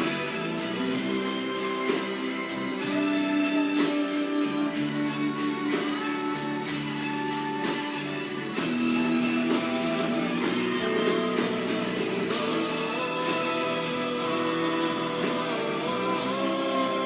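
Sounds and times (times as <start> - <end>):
guitars: 0.0 - 17.0
live band playing: 0.0 - 17.0.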